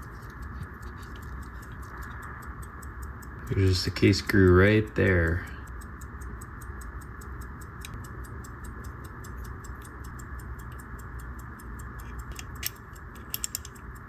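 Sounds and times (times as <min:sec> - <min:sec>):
pocket watch ticking: 0:00.0 - 0:14.0
steady hum: 0:00.0 - 0:14.0.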